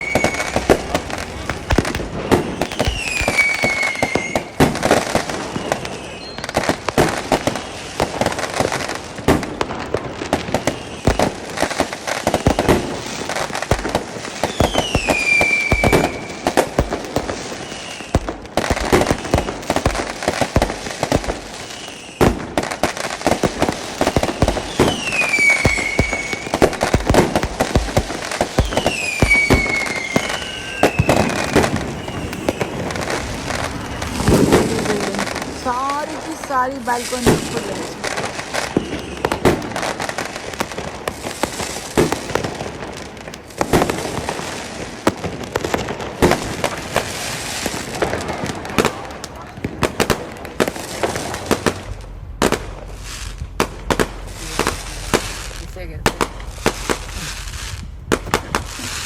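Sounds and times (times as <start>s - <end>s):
firework whistle: 0.0s - 51.8s, 52.4s - 55.6s
firecrackers crackling and banging: 0.0s - 59.0s.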